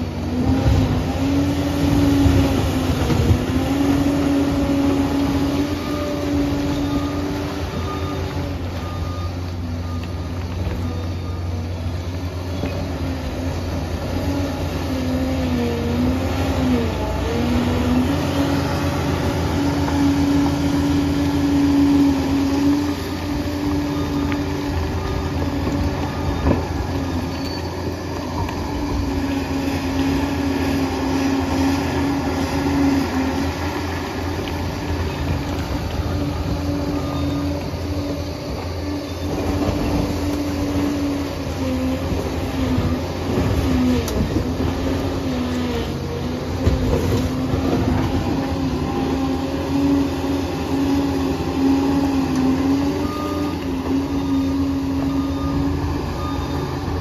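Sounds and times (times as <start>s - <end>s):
bulldozer diesel drone with whine: 0.0s - 57.0s.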